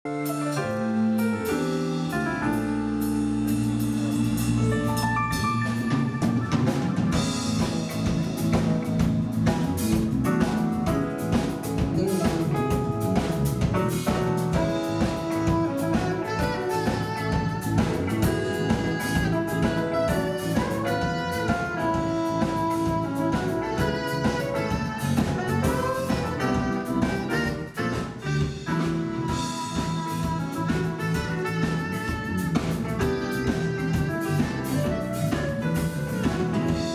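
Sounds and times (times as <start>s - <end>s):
drum kit: 0.1s - 36.9s
jazz band playing: 0.1s - 36.9s.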